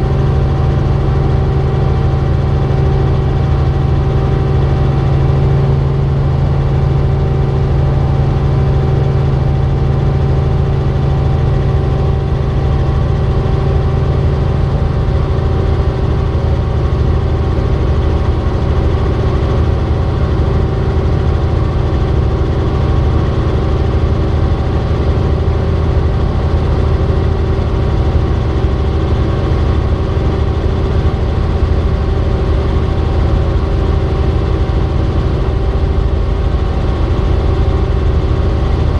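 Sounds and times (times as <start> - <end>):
helicopter engine and rotors: 0.0 - 38.9.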